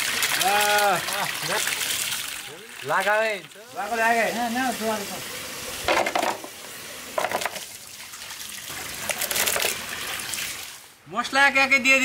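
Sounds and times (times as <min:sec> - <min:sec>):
hose water running into bowl: 0:00.0 - 0:10.9
splashing water: 0:00.0 - 0:11.0.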